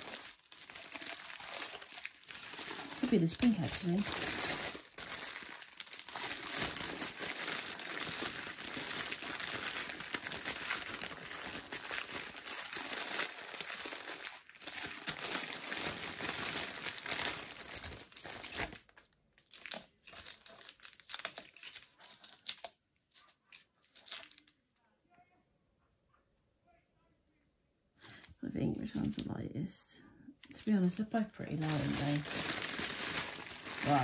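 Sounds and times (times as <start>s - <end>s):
plastic bags crinkling: 0.0s - 24.6s, 31.4s - 34.0s.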